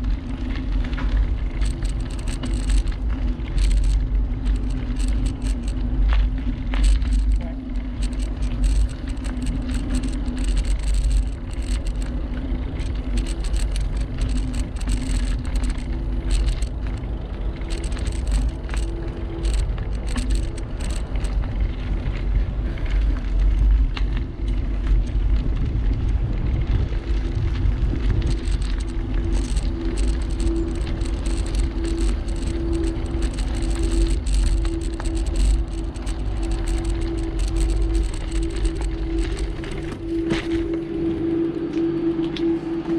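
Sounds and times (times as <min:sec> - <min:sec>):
bicycle tyres rumbling: 0:00.0 - 0:42.9
small rattles and clicks: 0:00.0 - 0:42.9
wind on microphone: 0:00.0 - 0:42.9.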